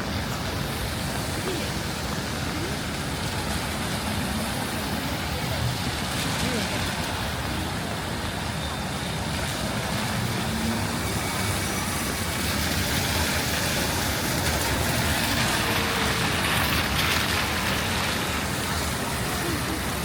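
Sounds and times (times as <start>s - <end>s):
passing vehicle engines: 0.0s - 20.0s
steady rain: 0.0s - 20.0s
tyres hissing on wet road: 0.0s - 20.0s.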